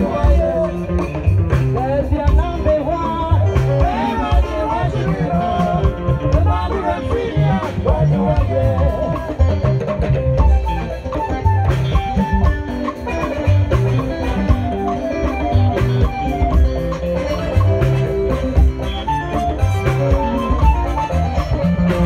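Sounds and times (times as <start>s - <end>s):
bass and drum kit beat: 0.0s - 22.0s
guitar melody: 0.0s - 22.0s.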